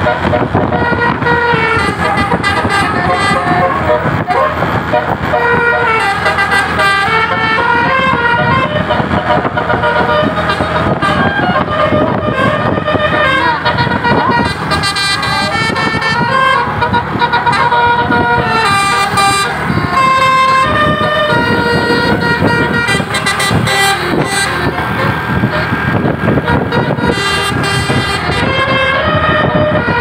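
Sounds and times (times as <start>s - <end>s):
multi-tone air horns playing tune: 0.0s - 30.0s.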